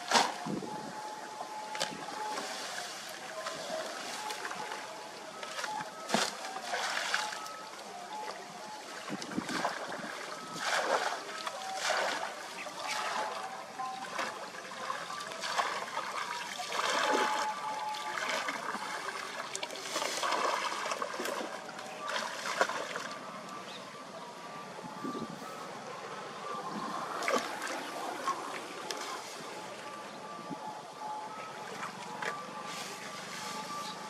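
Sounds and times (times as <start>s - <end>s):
water splashing from wading: 0.0s - 23.8s, 25.2s - 30.0s.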